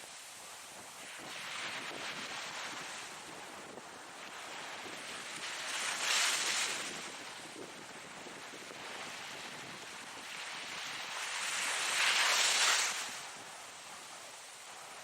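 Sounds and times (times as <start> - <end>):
ocean waves breaking: 1.0 - 15.0.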